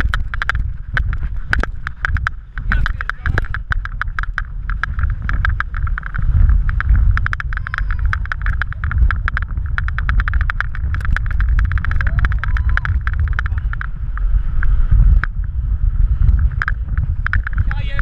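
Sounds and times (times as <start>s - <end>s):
deep rumble: 0.0s - 18.0s
wind rushing over camera: 0.0s - 18.0s.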